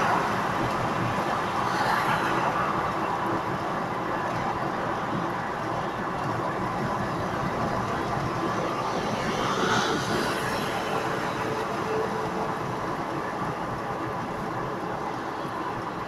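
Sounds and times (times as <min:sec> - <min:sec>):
car cabin road and engine noise: 0:00.0 - 0:16.0.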